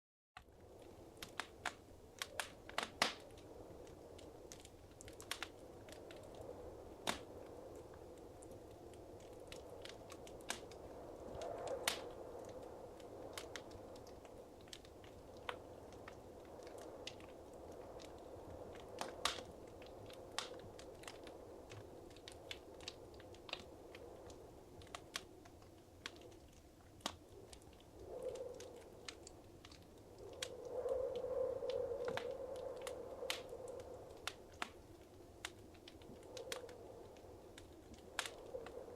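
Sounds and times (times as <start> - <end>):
wood fire crackling: 0.4 - 38.9
rush of flame: 0.5 - 38.9.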